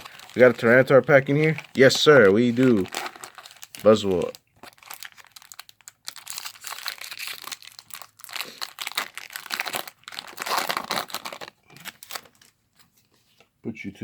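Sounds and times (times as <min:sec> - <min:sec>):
foil wrapper crinkling and tearing: 0:00.0 - 0:12.5.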